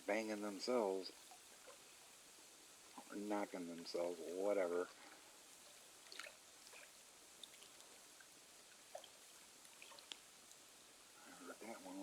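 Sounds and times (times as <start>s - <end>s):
faint trickling river water: 0.0s - 12.0s.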